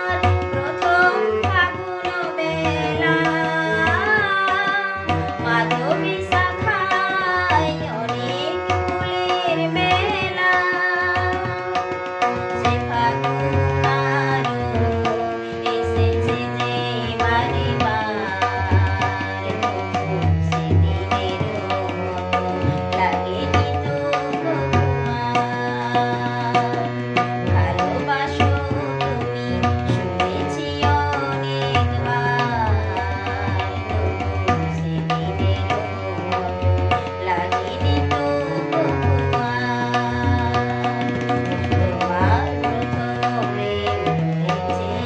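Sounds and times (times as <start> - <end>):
harmonium chords: 0.0 - 45.0
tabla rhythm: 0.0 - 45.0
woman singing: 0.0 - 45.0.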